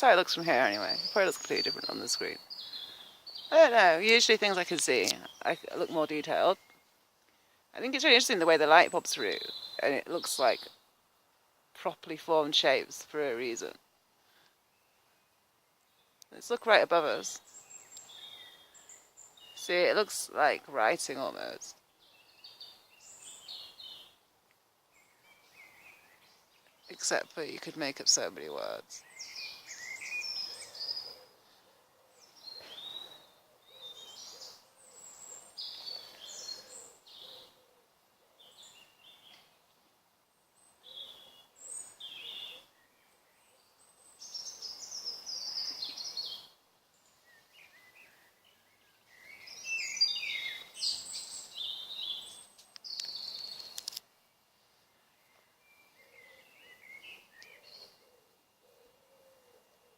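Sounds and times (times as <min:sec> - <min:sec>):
birds singing: 0:00.0 - 0:07.0, 0:07.8 - 0:11.0, 0:11.8 - 0:39.7, 0:40.3 - 0:59.9.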